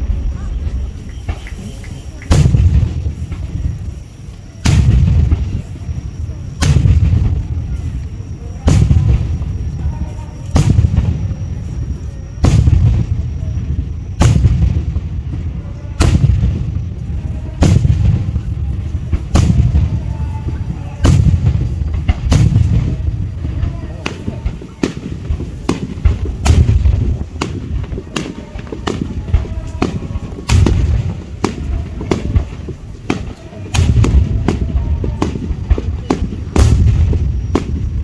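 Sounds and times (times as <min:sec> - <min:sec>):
firework shells bursting: 0:00.0 - 0:38.0.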